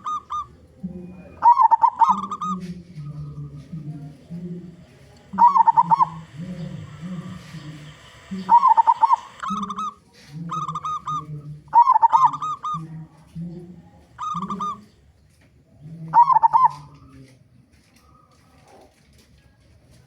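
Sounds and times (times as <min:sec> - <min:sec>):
dove cooing: 0:00.0 - 0:15.0, 0:15.8 - 0:17.1.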